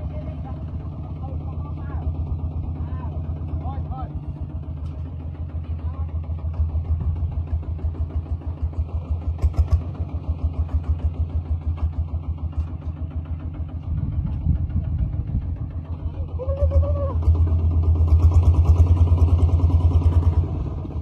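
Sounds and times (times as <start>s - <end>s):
tractor diesel engine chugging: 0.0s - 21.0s.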